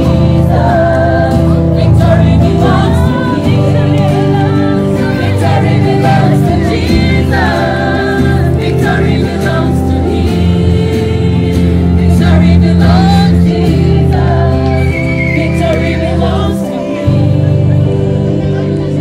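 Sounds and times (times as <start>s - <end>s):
gospel choir singing: 0.0s - 19.0s
held accompaniment chords: 0.0s - 19.0s.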